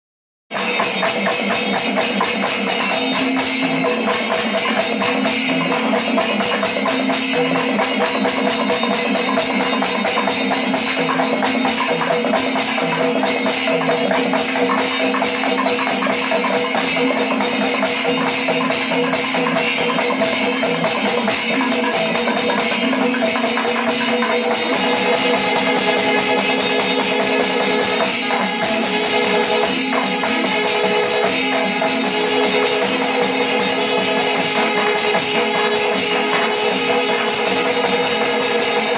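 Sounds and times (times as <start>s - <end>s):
drums: 0.5s - 38.9s
metal cymbals jingling: 0.6s - 38.9s.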